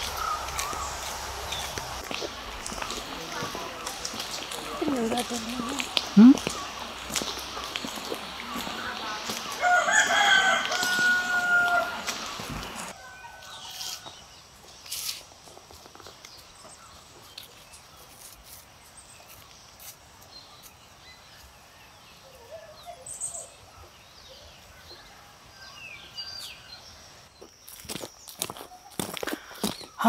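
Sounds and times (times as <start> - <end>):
rural outdoor ambience: 0.0 - 30.0.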